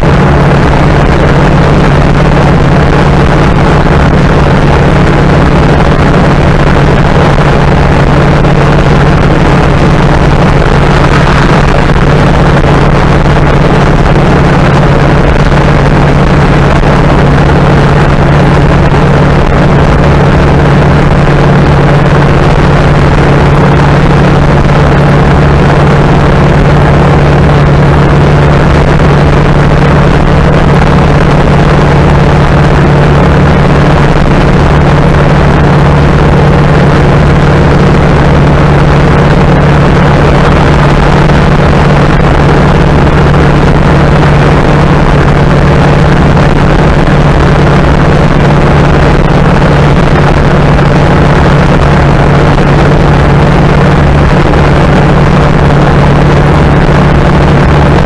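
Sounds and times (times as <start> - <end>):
car engine low drone: 0.0 - 58.0
road and wind noise: 0.0 - 58.0.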